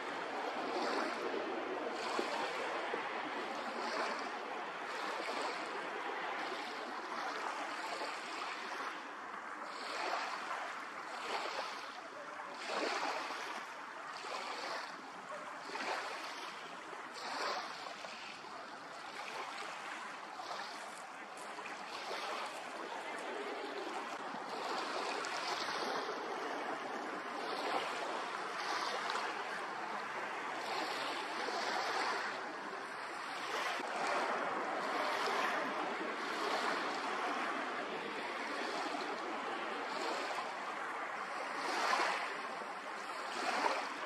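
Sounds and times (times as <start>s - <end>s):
waves washing on open water: 0.0s - 44.0s.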